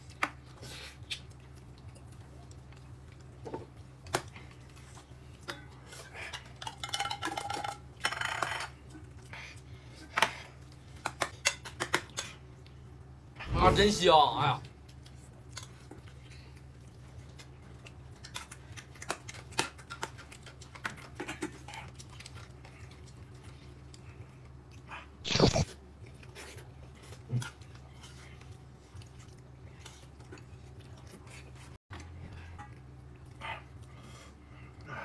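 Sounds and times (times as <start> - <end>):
person chewing food: 0.0 - 12.8, 14.8 - 34.9
low steady hum: 0.0 - 35.0.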